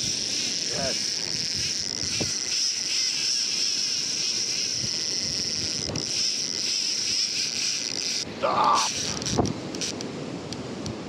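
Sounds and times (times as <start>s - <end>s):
wind on microphone: 0.0s - 3.4s, 4.2s - 11.0s
fishing reel whirring: 0.0s - 10.0s.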